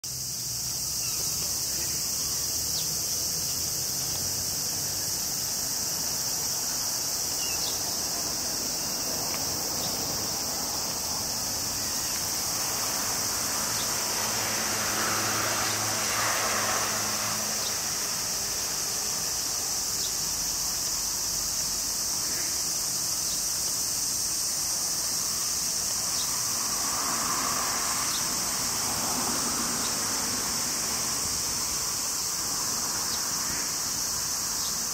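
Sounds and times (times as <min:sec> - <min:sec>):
insect chorus shrilling: 0:00.0 - 0:34.9
vehicle passing: 0:00.4 - 0:21.5, 0:26.0 - 0:33.5.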